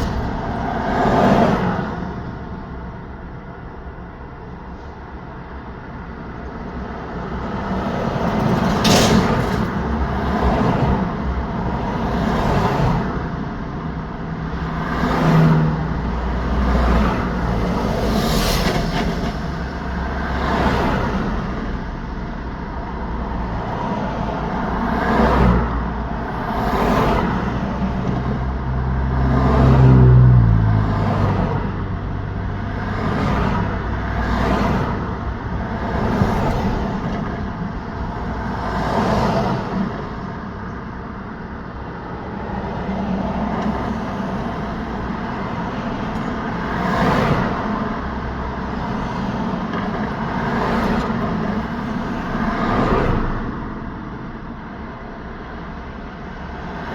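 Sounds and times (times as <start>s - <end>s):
cars passing: 0.0s - 56.9s
heavy vehicle engine drone: 0.0s - 56.9s.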